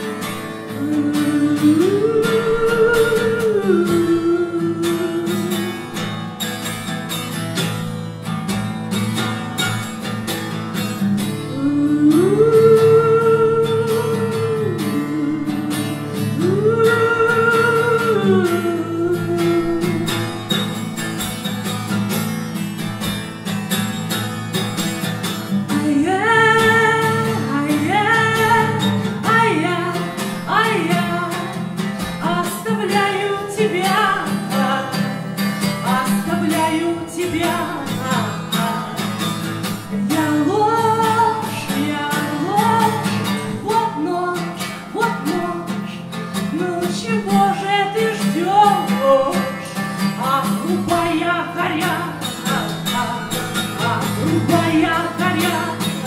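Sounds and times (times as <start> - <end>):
woman singing: 0.0 - 6.7, 9.2 - 21.9, 25.3 - 56.0
acoustic guitar: 0.0 - 56.0.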